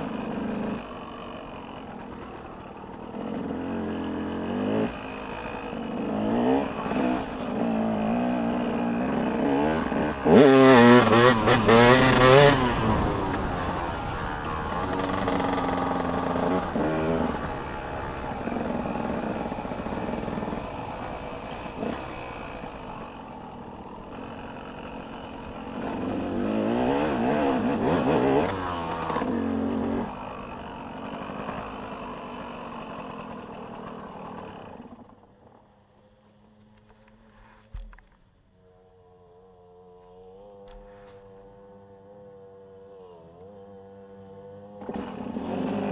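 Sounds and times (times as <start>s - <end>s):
dirt bike engines revving: 0.0s - 35.2s, 38.7s - 45.9s
dirt bike passing close: 0.0s - 38.0s, 38.6s - 45.9s.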